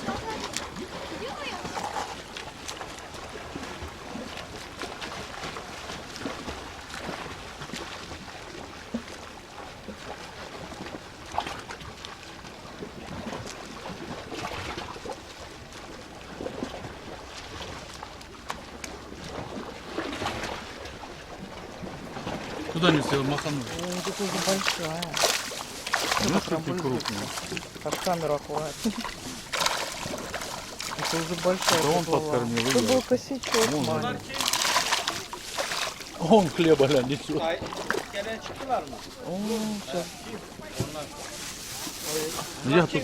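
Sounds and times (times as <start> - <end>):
sea water lapping at shore: 0.0 - 43.0
small water splashes: 0.0 - 43.0.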